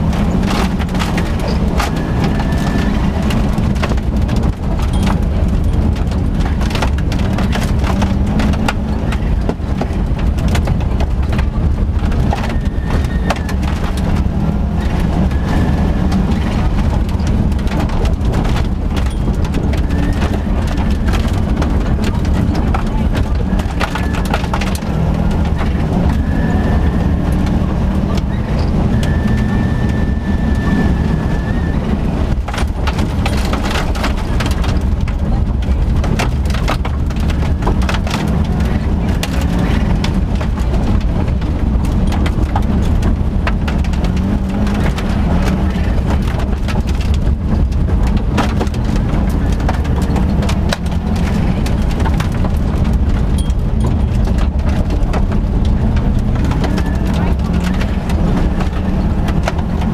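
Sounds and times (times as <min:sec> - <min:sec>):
gravel clattering against car: 0:00.0 - 0:59.9
rally car engine running hard: 0:00.0 - 0:59.9.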